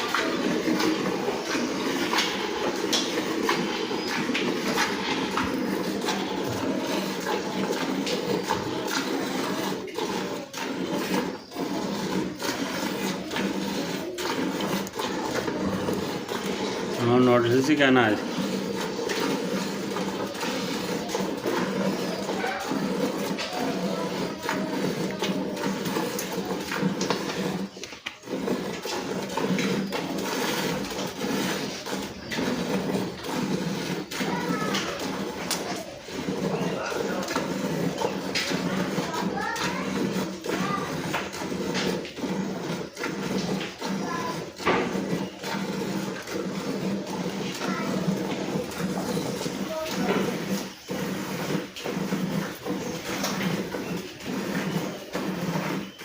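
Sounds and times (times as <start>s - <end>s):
milk squirting into a pail: 0.0s - 56.0s.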